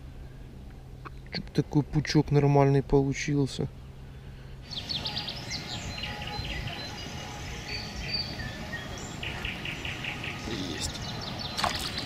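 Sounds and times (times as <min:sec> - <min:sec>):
low steady rumble: 0:00.0 - 0:11.6
songbirds singing: 0:00.0 - 0:12.0.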